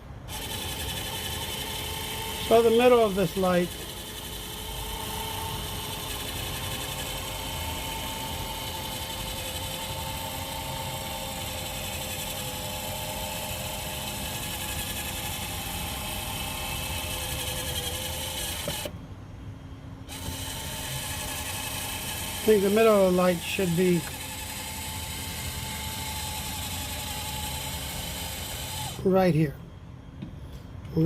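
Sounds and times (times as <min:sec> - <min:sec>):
small electric motor whirring: 0:00.0 - 0:19.0, 0:20.0 - 0:29.1.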